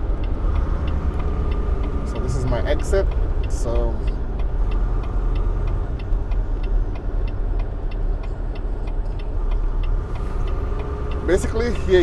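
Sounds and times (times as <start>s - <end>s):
truck engine rumbling: 0.0s - 12.0s
turn signal clicking: 0.0s - 12.0s.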